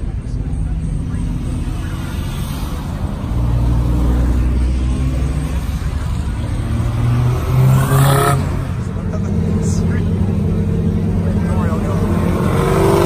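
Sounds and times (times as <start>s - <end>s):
car engines passing slowly: 0.0s - 13.0s
engine revving: 0.7s - 13.0s.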